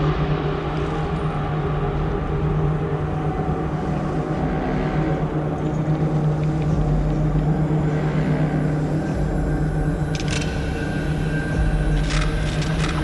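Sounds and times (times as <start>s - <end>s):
dark ambient industrial drone: 0.0s - 13.0s.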